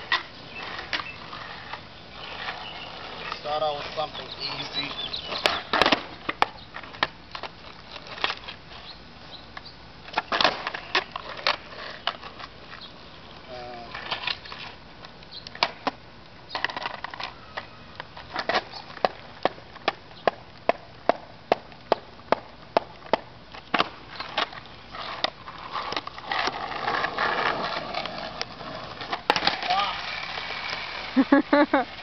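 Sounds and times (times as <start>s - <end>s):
skateboard clacking on asphalt: 0.0s - 31.2s
wheels rolling on pavement: 0.0s - 32.0s.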